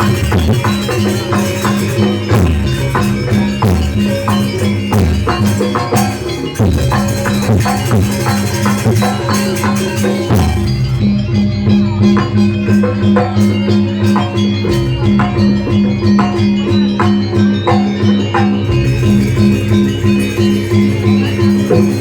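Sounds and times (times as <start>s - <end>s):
gamelan percussion ensemble: 0.0s - 22.0s.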